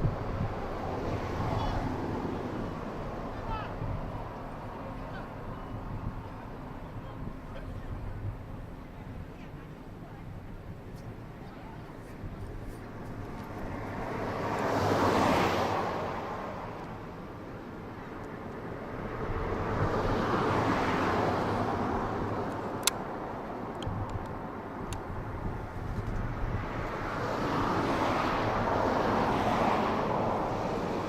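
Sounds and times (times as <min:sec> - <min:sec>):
vehicles passing rushing noise: 0:00.0 - 0:31.0.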